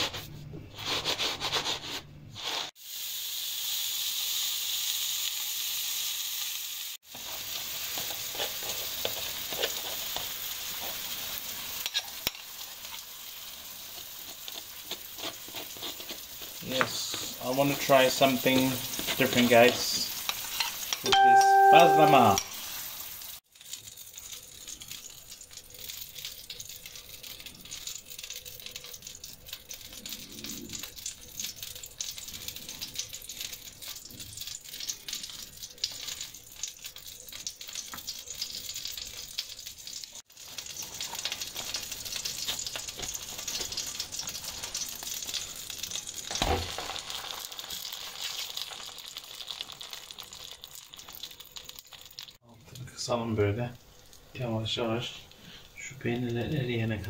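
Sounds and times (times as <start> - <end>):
oil sizzling in a frying pan: 2.4 - 57.0.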